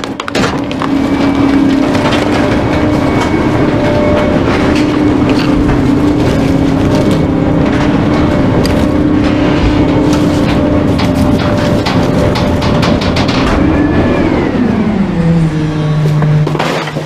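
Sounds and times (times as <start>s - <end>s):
truck rattles: 0.0s - 14.7s, 16.1s - 17.0s
garbage truck engine droning: 0.0s - 17.0s.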